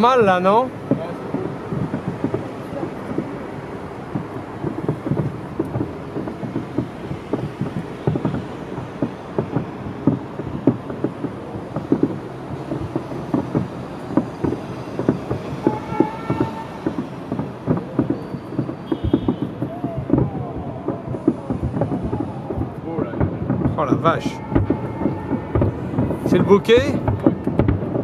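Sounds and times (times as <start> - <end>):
firework shells bursting: 0.0 - 28.0.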